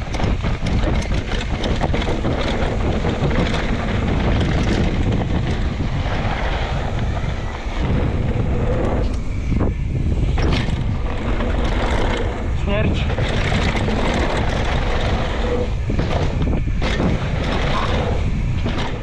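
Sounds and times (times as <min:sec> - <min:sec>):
steady low rumble: 0:00.0 - 0:19.0
wind rushing over microphone: 0:00.0 - 0:19.0.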